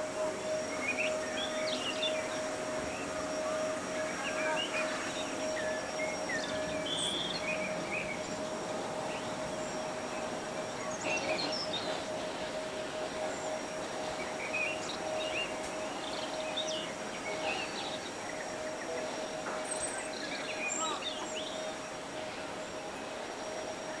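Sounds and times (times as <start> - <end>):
birds chirping: 0.0 - 24.0
steady faint tone: 0.0 - 24.0.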